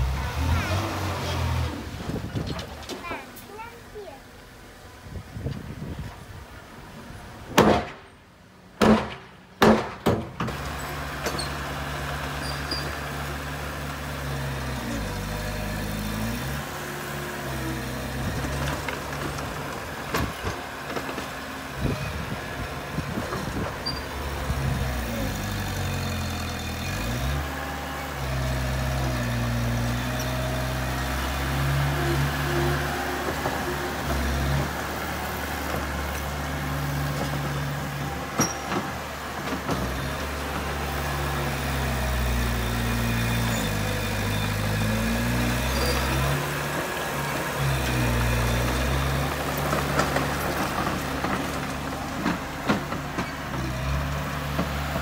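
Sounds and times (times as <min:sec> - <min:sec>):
bulldozer diesel engine under load: 0:00.0 - 0:08.8, 0:10.2 - 0:55.0.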